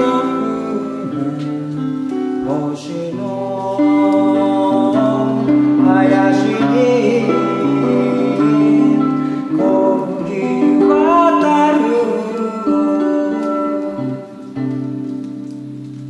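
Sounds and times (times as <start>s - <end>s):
man singing: 0.0s - 14.6s
acoustic guitar: 0.0s - 16.0s.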